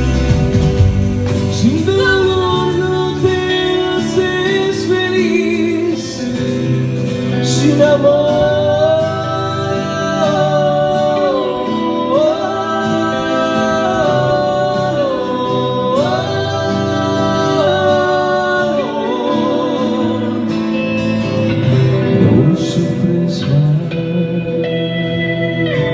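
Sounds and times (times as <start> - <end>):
steady musical backing: 0.0 - 25.9.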